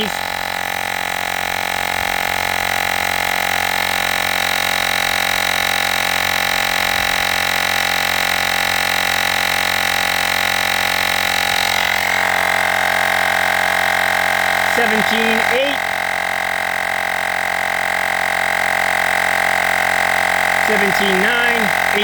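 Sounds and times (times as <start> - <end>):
air compressor running with whine: 0.0 - 22.0.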